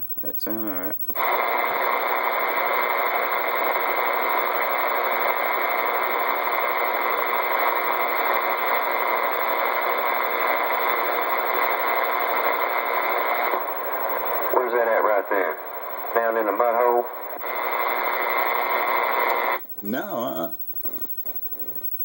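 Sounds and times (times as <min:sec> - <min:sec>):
radio static hissing: 0:00.0 - 0:22.0.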